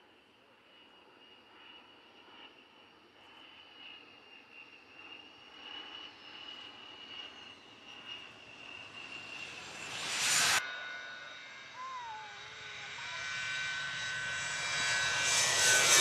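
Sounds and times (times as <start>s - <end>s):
jet engines whining: 1.1s - 16.0s.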